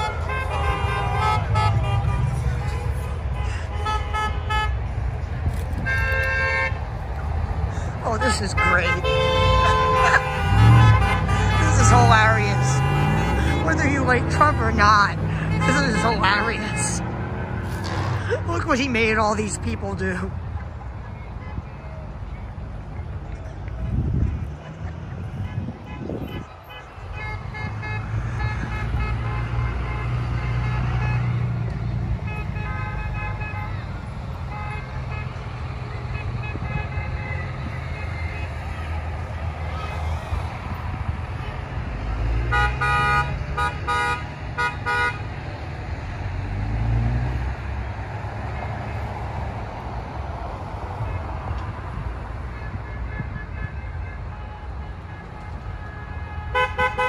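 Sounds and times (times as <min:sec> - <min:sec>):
car horns honking: 0:00.0 - 0:07.0, 0:07.8 - 0:20.2, 0:24.3 - 0:40.0, 0:40.6 - 0:45.4, 0:50.9 - 0:57.0
passing traffic noise: 0:00.0 - 0:57.0
vehicles driving past: 0:00.0 - 0:57.0.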